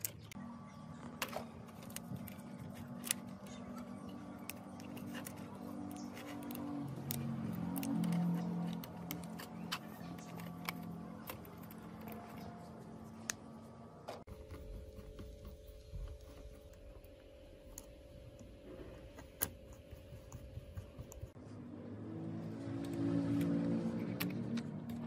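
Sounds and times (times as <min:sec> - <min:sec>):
faint steady hum: 0:00.0 - 0:21.6.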